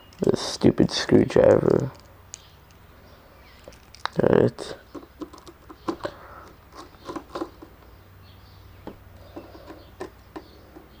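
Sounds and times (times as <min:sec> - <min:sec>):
small parts clicking and tapping: 0:00.0 - 0:07.9, 0:08.8 - 0:11.0.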